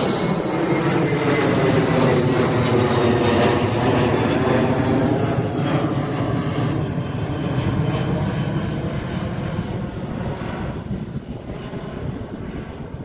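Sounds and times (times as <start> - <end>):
jet airliner passing overhead: 0.0 - 13.0.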